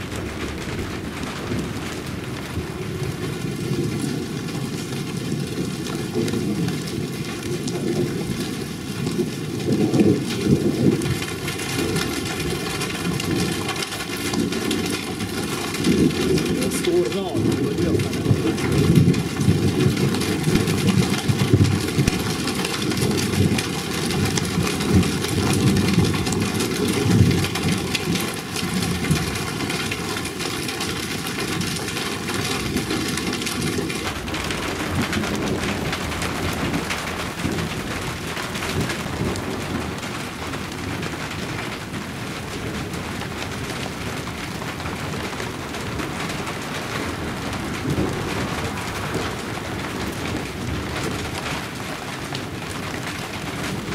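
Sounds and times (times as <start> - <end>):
low rumbling thunder: 0.0 - 53.9
rain falling: 0.0 - 53.9.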